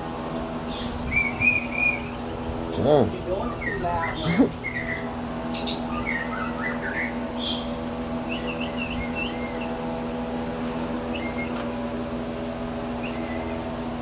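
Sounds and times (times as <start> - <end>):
mechanical hum: 0.0 - 14.0
small birds chirping: 0.3 - 9.9, 11.0 - 11.8, 12.8 - 14.0.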